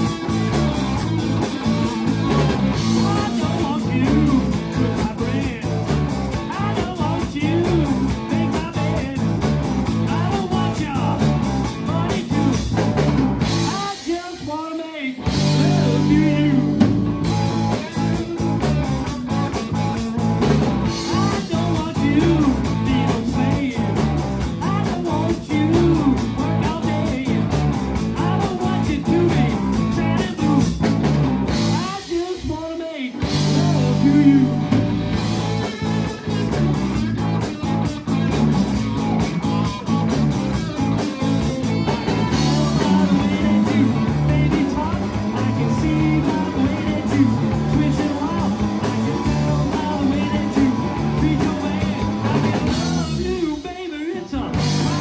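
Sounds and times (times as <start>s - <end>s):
electric bass: 0.0s - 14.2s, 15.2s - 32.4s, 33.2s - 53.6s, 54.3s - 55.0s
drum kit: 0.0s - 55.0s.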